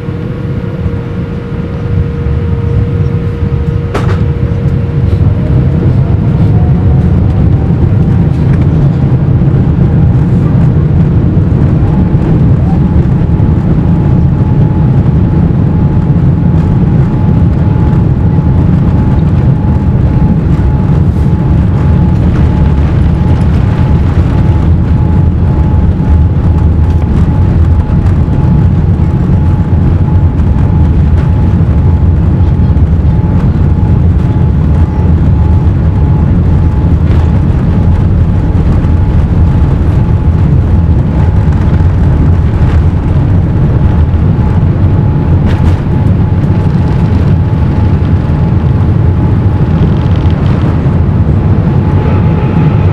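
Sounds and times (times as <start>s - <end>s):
jet engine rumble in cabin: 0.0s - 52.9s
thin steady engine whine: 0.0s - 52.9s.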